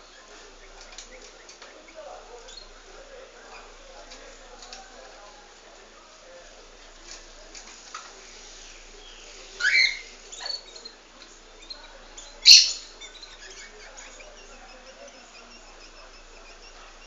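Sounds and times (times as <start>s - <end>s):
pet birds chirping: 0.0s - 5.4s, 7.1s - 17.0s.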